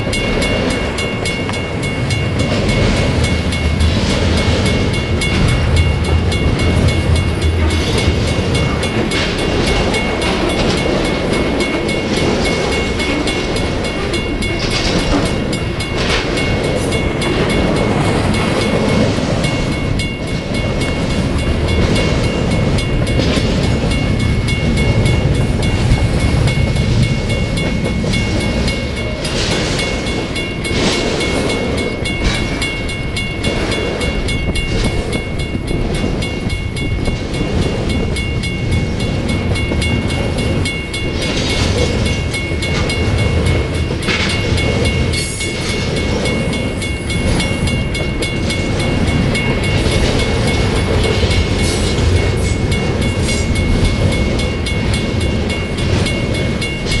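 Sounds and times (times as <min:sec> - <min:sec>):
clickety-clack over rail joints: 0:00.0 - 0:57.0
train wheels rumbling on rails: 0:00.0 - 0:57.0.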